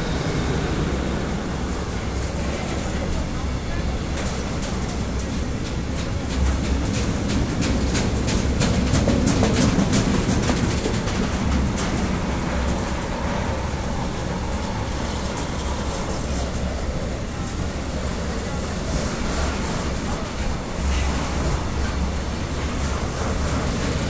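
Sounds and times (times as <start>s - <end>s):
freight train wagons rolling: 0.0s - 24.0s.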